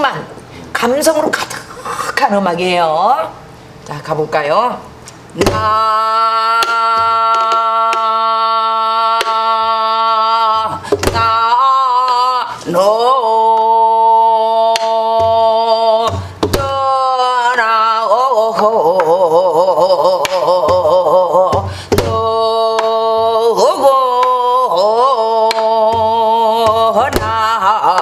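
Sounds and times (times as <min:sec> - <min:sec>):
woman singing with vibrato: 0:05.3 - 0:28.0.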